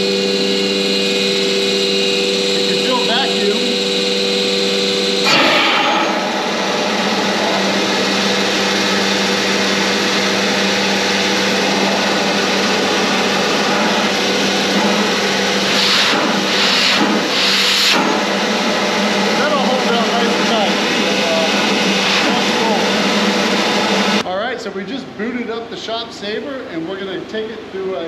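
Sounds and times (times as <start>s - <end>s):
vacuum pump humming with air rush: 0.0s - 28.0s.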